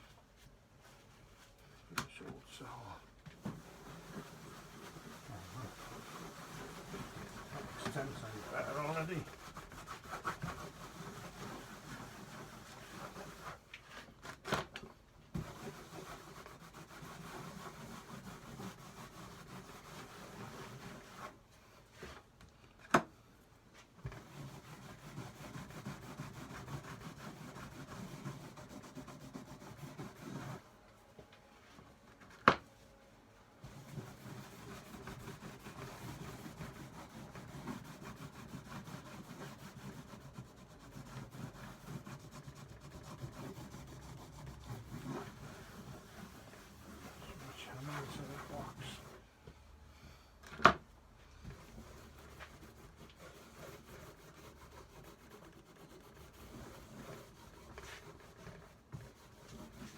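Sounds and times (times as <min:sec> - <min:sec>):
cloth rubbing wax into wood: 0:00.3 - 0:14.5, 0:15.3 - 0:22.2, 0:23.7 - 0:30.7, 0:33.6 - 0:49.3, 0:51.5 - 0:59.9.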